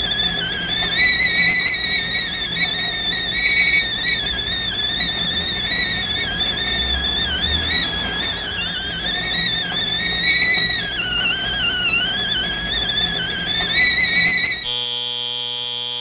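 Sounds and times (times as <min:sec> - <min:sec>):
high sustained instrumental line: 0:00.0 - 0:14.9.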